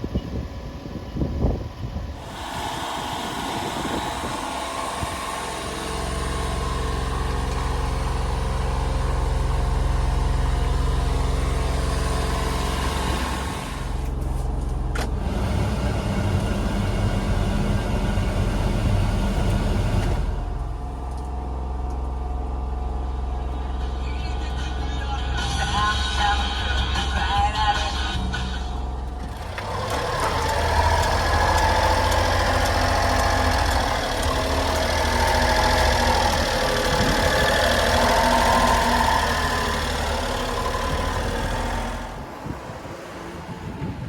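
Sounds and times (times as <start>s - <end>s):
truck engine idling: 0.1s - 44.0s.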